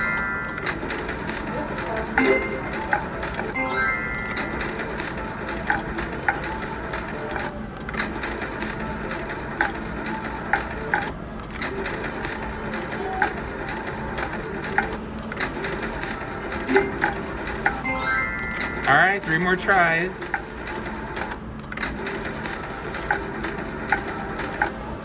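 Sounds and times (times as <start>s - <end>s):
slot machine reels clicking: 0.0s - 24.8s.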